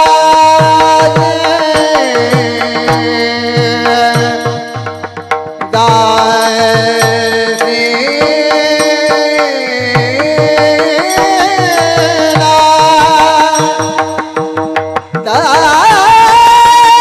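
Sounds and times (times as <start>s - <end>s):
ornamented devotional singing: 0.0s - 17.0s
sustained accompanying notes: 1.1s - 15.1s.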